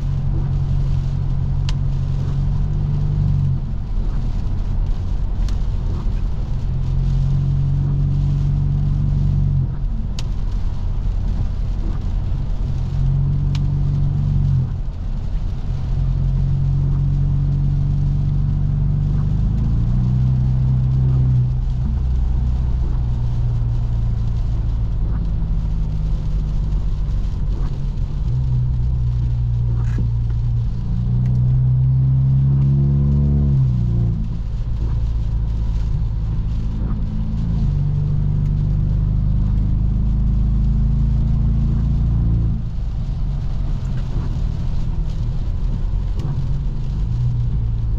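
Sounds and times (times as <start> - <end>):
car exhaust droning: 0.0 - 47.9
engine revving under acceleration: 0.0 - 47.9.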